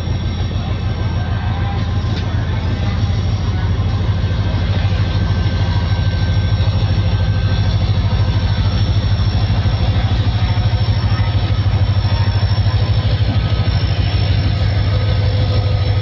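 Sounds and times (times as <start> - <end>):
diesel locomotive engine throbbing: 0.0 - 16.0.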